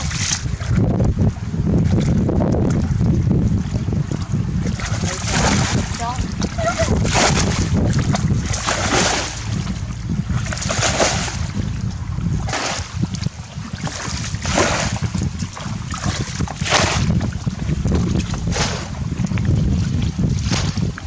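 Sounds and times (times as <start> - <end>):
water splashing in surges: 0.0 - 21.0
wind rumble on microphone: 0.0 - 21.0.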